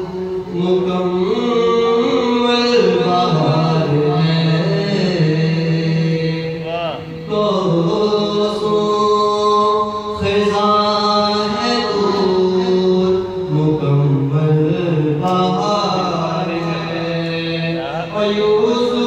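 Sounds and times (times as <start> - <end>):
man chanting a devotional song: 0.0 - 19.0.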